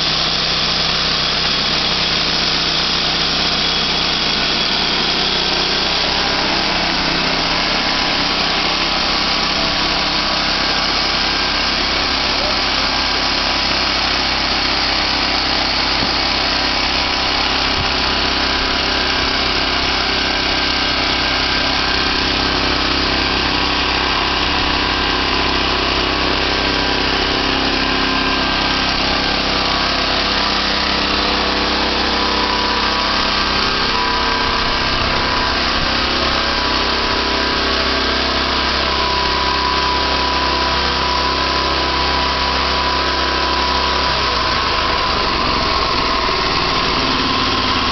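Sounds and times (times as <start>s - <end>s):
band sawmill engine running: 0.0s - 47.9s
steady whine: 0.0s - 47.9s.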